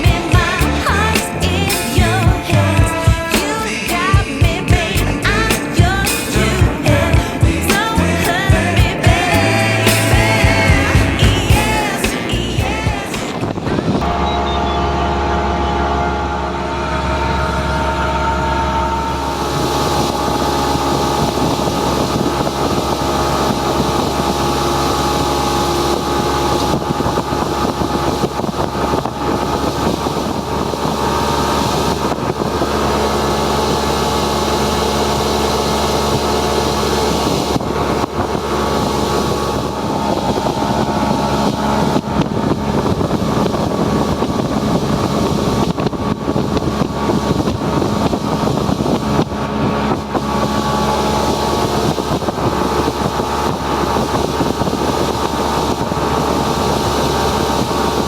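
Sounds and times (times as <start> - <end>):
motorboat engine running: 0.0 - 58.0
wind noise on microphone: 0.0 - 58.0.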